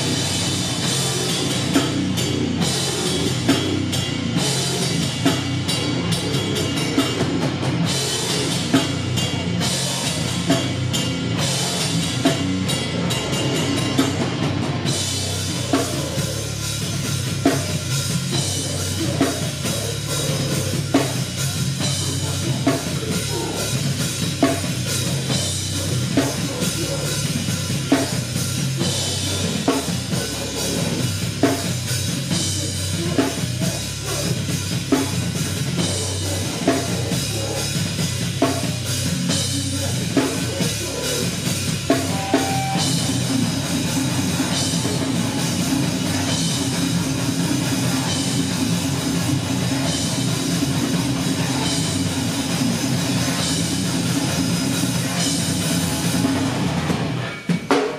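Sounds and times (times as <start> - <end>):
distorted guitar: 0.0 - 57.9
heavy drums: 0.0 - 57.9
live rock band: 0.0 - 57.9.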